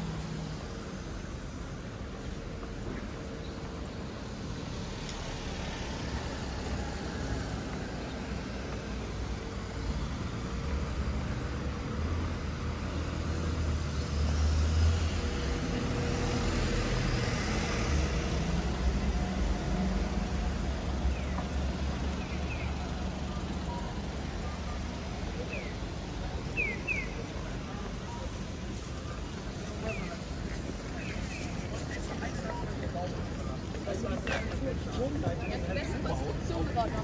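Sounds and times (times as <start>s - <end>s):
large vehicle rumbling: 0.0s - 37.0s.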